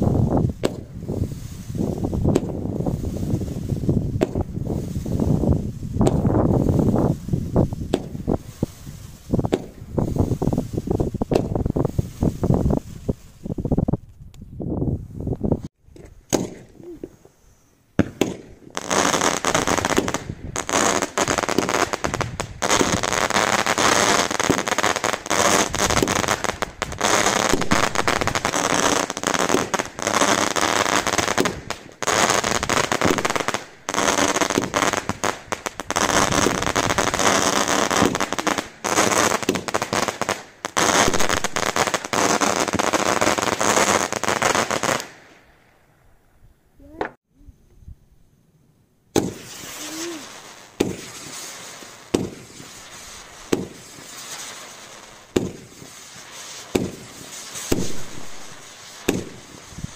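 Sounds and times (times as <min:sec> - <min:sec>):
fireworks crackling: 0:00.0 - 0:14.5, 0:15.2 - 0:45.8, 0:49.1 - 0:59.9.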